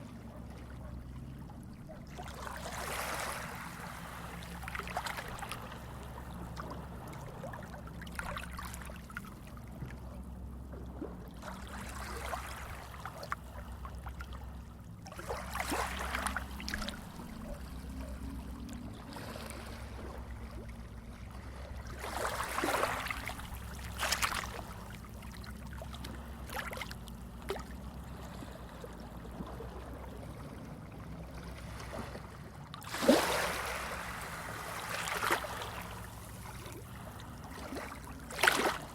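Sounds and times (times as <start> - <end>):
low steady rumble: 0.0 - 38.9
sea waves lapping and splashing: 0.0 - 38.9.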